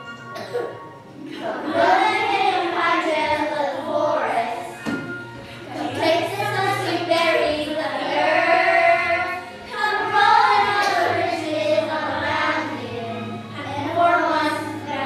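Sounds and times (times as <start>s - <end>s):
high voices singing: 0.0s - 15.0s.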